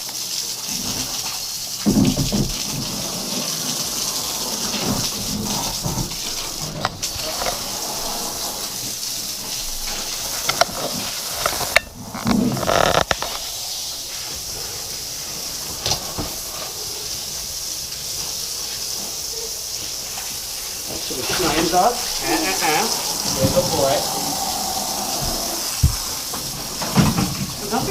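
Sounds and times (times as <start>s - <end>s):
water running from a hose: 0.0s - 27.9s.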